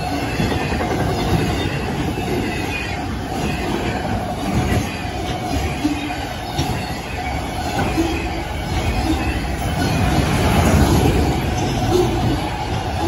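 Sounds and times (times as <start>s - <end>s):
faint steady squeal: 0.0s - 13.0s
steel wheels rumbling on rail: 0.0s - 13.0s.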